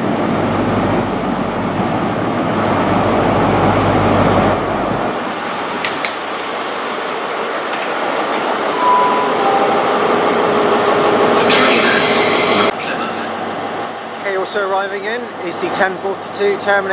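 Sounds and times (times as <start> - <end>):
diesel train engine rumble: 0.0 - 14.2.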